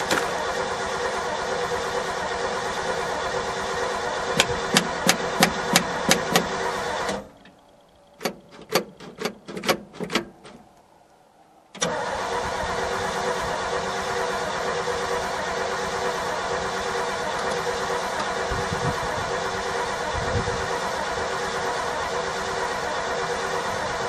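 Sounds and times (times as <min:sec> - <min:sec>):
truck engine running: 0:00.0 - 0:10.6, 0:11.8 - 0:24.0.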